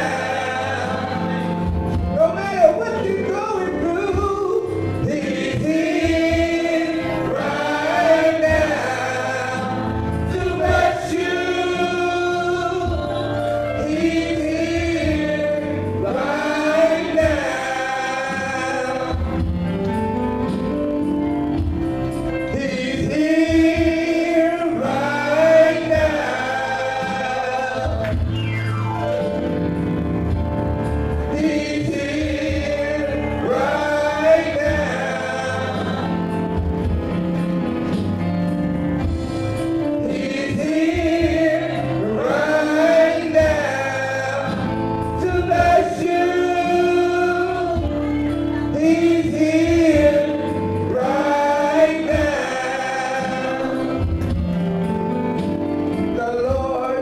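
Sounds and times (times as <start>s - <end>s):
gospel choir singing: 0.0s - 57.0s.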